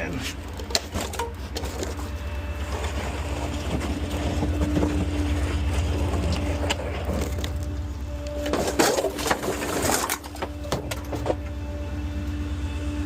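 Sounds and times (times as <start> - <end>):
constant hum: 0.0 - 13.0
garbage truck engine rumbling: 0.0 - 13.0.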